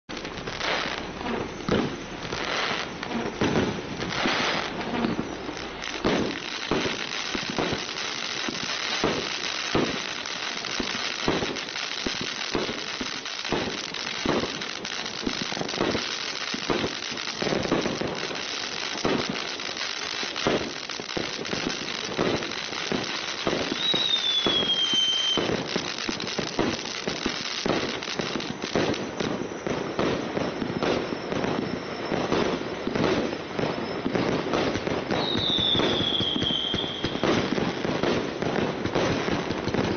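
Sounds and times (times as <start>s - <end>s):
fireworks battery firing: 0.1s - 39.9s
firework whistle falling in pitch: 0.2s - 39.0s.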